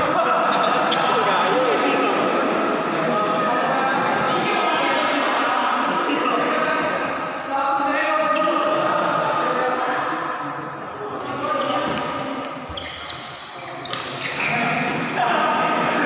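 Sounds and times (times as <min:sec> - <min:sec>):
background voices talking: 0:00.0 - 0:16.0.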